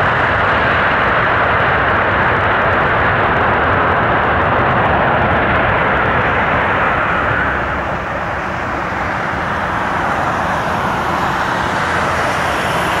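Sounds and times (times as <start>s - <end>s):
distant jet engines rushing: 0.0s - 13.0s.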